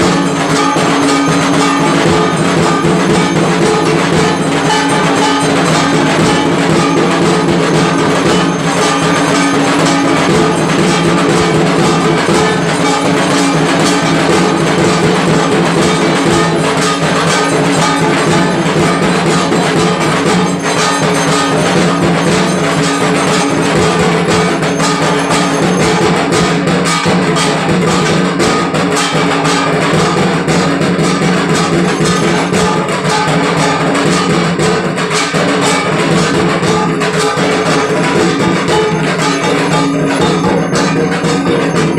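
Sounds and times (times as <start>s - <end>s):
bells ringing: 0.0s - 41.9s
drums struck rapidly: 0.0s - 41.9s.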